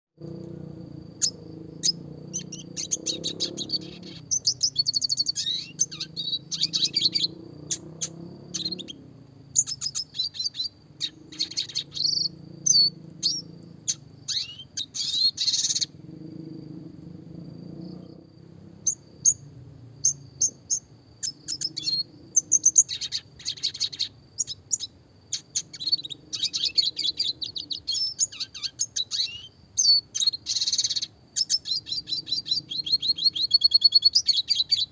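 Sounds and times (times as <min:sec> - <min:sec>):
faint low hum: 0:00.2 - 0:29.9
bird twittering and trilling: 0:00.2 - 0:34.9.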